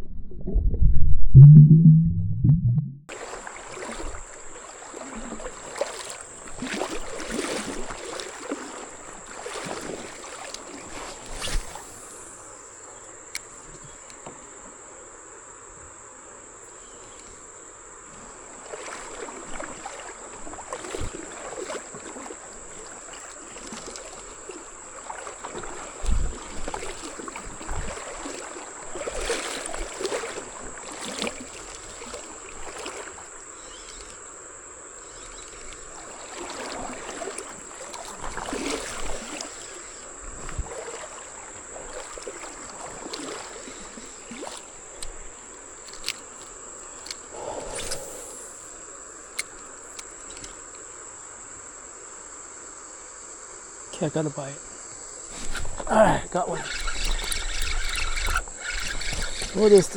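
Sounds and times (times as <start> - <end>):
paddle splashes: 3.1 - 14.4, 18.0 - 34.3, 34.9 - 50.9, 55.0 - 59.9
creek water running: 3.1 - 14.8, 16.5 - 59.9.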